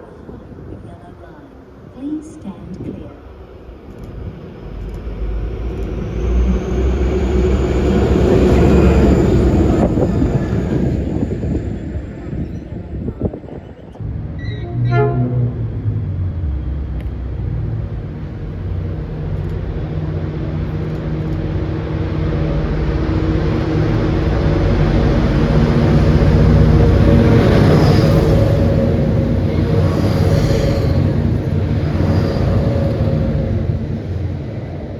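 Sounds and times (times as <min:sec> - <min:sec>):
diesel locomotive engines humming: 0:00.0 - 0:34.9.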